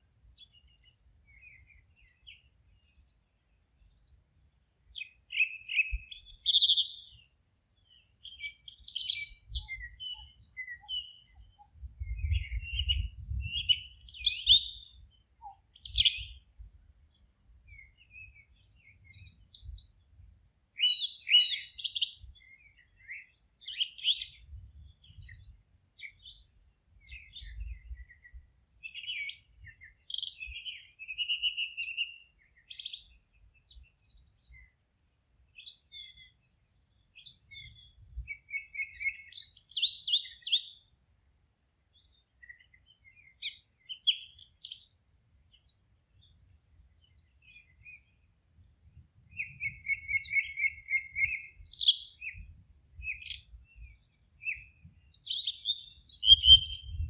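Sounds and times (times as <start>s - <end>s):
songbirds chirping and singing: 0.1s - 40.9s, 41.5s - 57.0s.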